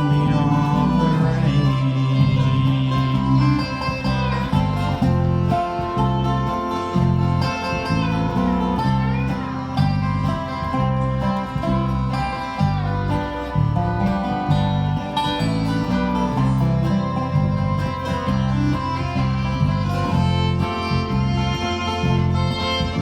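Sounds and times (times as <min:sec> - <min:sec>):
banjo picking: 0:00.0 - 0:23.0
guitar picking: 0:00.0 - 0:23.0
steady rhythmic bass: 0:00.0 - 0:23.0.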